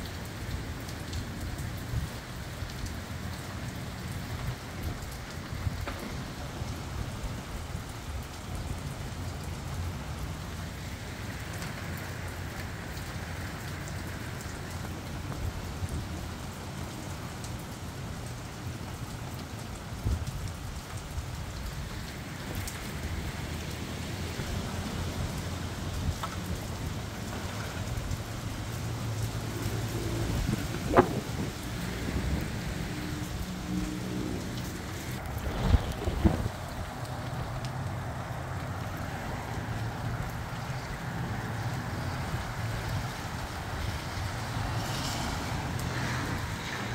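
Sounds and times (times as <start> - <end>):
rain falling: 0.0 - 46.9
raindrop ticks: 0.0 - 46.9.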